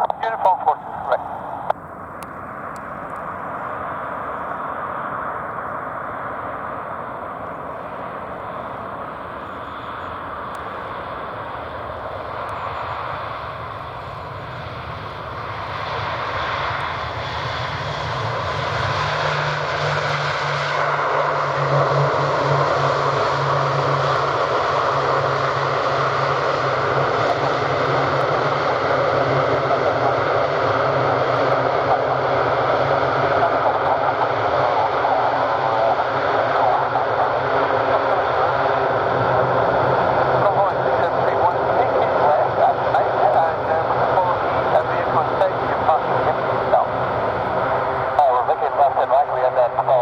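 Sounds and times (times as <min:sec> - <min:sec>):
turboprop aircraft drone: 0:00.0 - 0:50.0.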